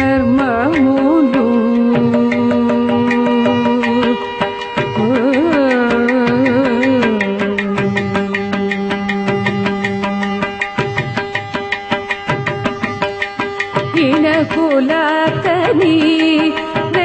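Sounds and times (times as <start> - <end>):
hand drum strokes: 0.0 - 17.0.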